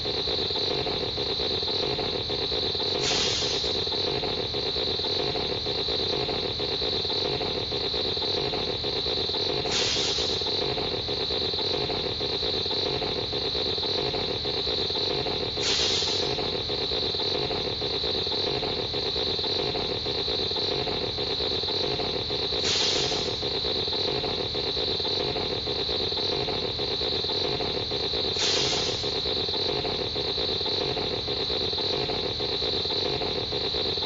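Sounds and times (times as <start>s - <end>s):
droning hiss: 0.0s - 34.0s.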